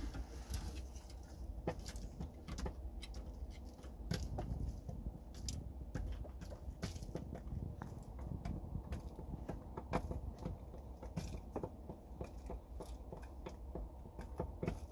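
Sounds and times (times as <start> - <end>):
chickens pecking in wood shavings: 0.0 - 14.9.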